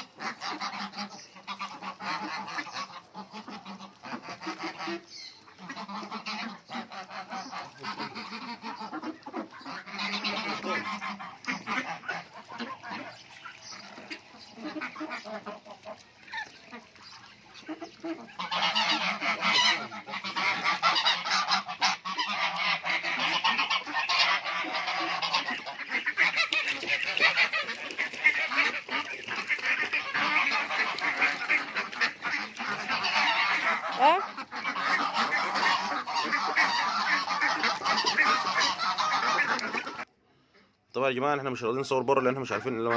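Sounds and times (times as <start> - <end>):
flock of ducks calling: 0.0 - 40.1, 42.4 - 42.9.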